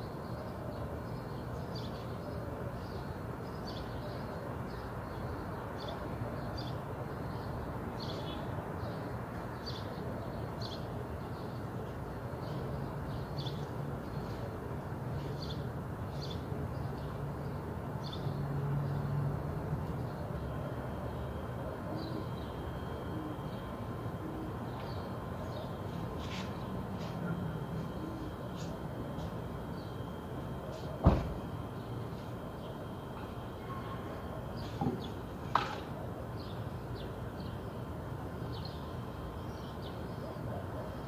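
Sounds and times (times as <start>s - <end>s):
background street rumble: 0.0s - 41.0s.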